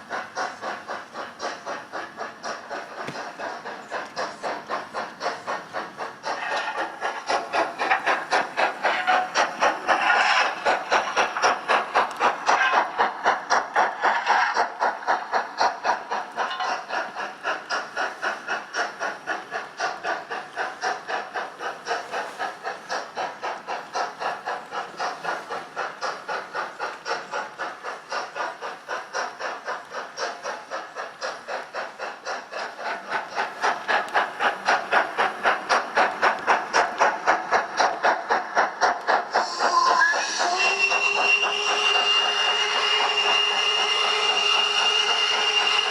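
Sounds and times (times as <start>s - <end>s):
steam hiss: 0.0s - 45.9s
steam locomotive exhaust chuffs: 0.0s - 45.9s.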